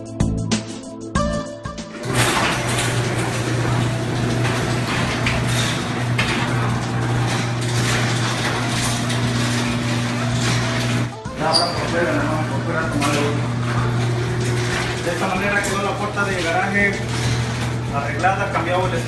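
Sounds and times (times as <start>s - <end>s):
door rattling along tracks: 1.9s - 19.0s
garage door opener motor hum: 1.9s - 19.0s.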